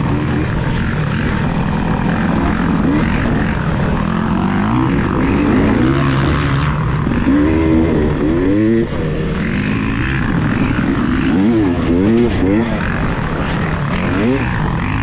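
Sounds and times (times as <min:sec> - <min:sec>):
quad bike engines revving: 0:00.0 - 0:15.0.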